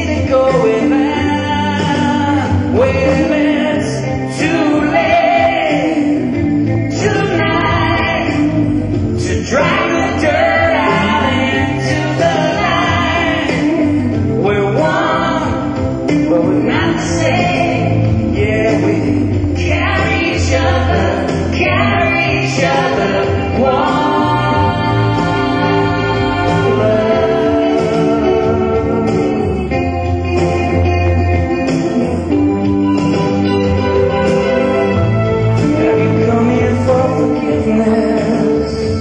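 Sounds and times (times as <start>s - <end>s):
backing band playing: 0.0s - 39.0s
person singing: 0.0s - 39.0s
steady low bass: 0.0s - 39.0s.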